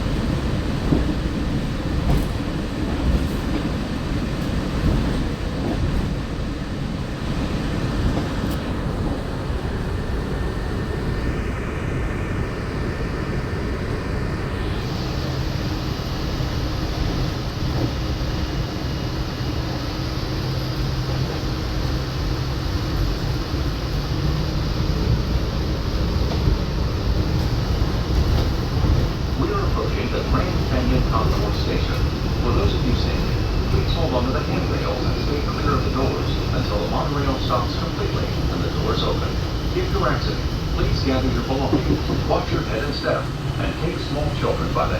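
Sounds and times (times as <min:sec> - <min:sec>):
monorail rumble and hum: 0:00.0 - 0:44.9.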